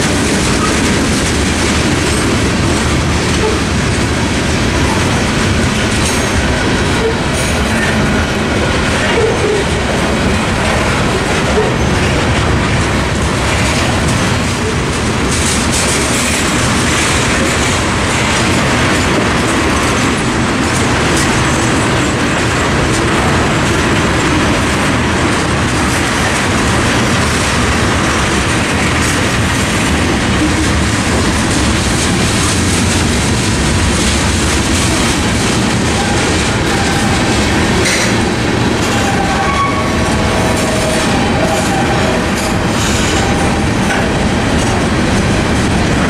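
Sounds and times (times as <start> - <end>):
freight train rumbling past: 0.0 - 46.0
wheels clacking over rail joints: 0.0 - 46.0.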